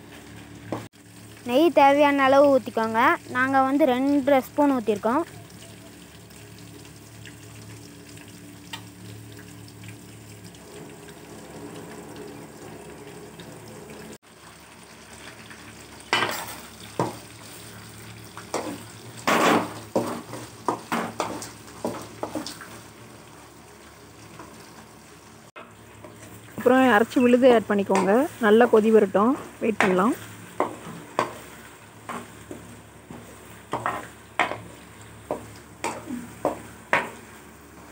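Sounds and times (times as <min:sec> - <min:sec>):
food frying with low sizzle: 0:00.0 - 0:37.9.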